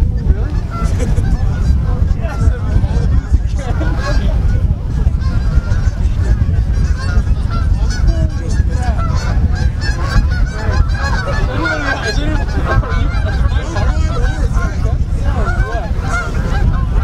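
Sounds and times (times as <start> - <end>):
geese honking in flight: 0.0 - 17.0
steady low rumble: 0.0 - 17.0.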